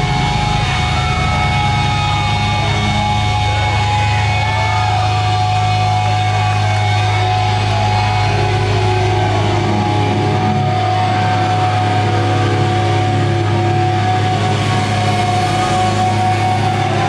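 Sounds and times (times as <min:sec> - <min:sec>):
distorted electric guitars: 0:00.0 - 0:17.0.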